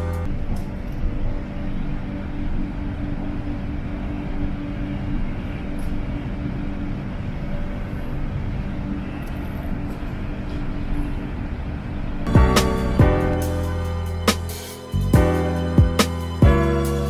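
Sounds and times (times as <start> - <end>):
low steady hum: 0.0 - 16.6
train running rumble: 0.0 - 17.0.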